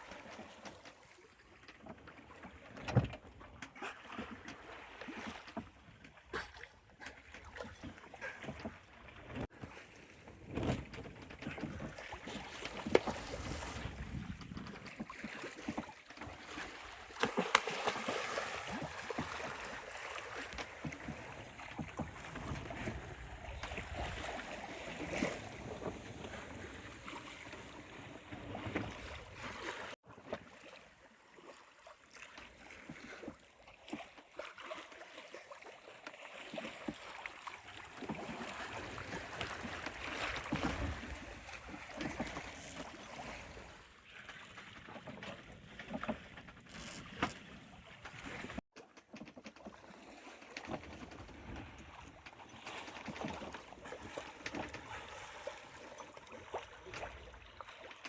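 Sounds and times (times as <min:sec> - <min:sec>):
water splashing along hull: 0:00.0 - 0:58.0
wind: 0:00.0 - 0:58.0.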